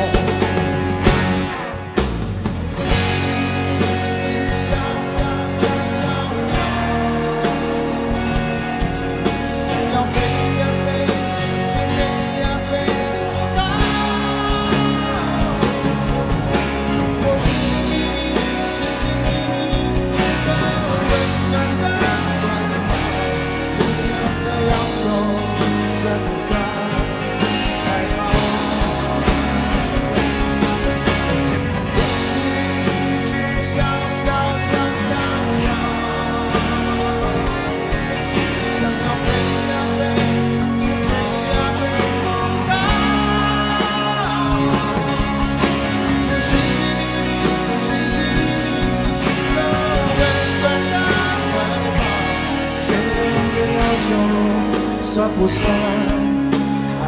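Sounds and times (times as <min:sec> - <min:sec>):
guitars: 0:00.0 - 0:57.0
rock band playing: 0:00.0 - 0:57.0
steady drum beat: 0:00.0 - 0:57.0.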